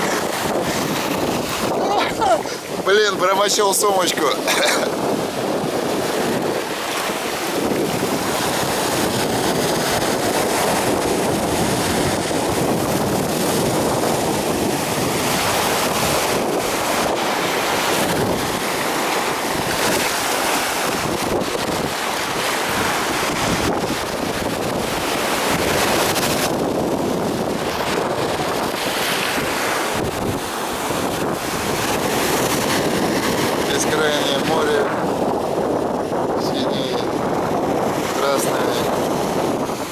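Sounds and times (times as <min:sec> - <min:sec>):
surf breaking on shore: 0:00.0 - 0:39.9
wind buffeting microphone: 0:00.0 - 0:39.9.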